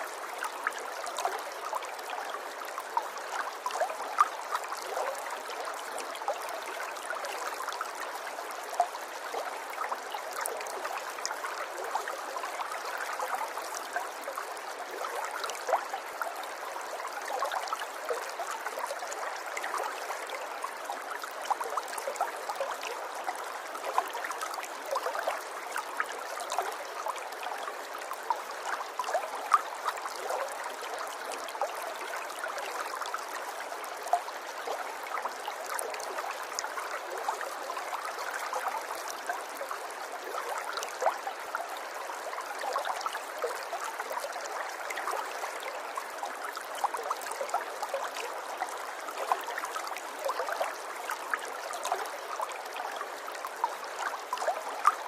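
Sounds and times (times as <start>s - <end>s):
river water trickling and splashing: 0.0s - 55.0s.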